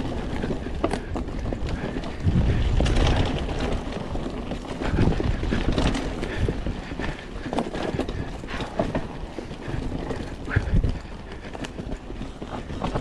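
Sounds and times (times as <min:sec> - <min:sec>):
bike rattling over bumps: 0:00.0 - 0:13.0
bike tyres on dirt: 0:00.0 - 0:13.0
wind on microphone: 0:00.0 - 0:13.0.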